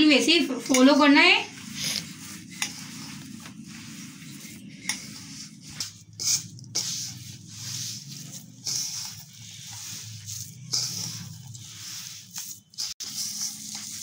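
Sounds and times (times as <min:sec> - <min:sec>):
hand kneading dough: 0:00.0 - 0:14.0
scraping on steel plate: 0:01.6 - 0:14.0.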